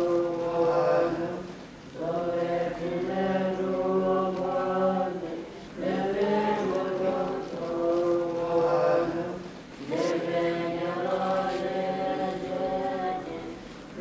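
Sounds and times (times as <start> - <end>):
voices chanting a mantra: 0.0 - 14.0.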